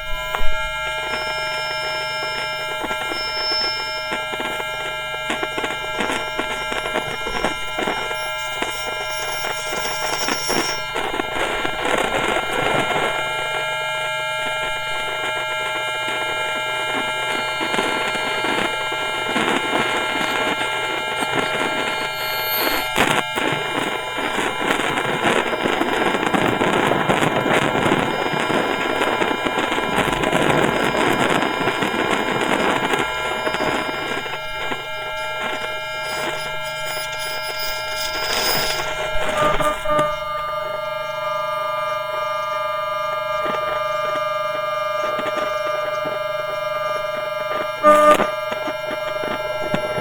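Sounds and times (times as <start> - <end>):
crackling hiss: 0.0 - 50.0
steady whining electrical tones: 0.0 - 50.0.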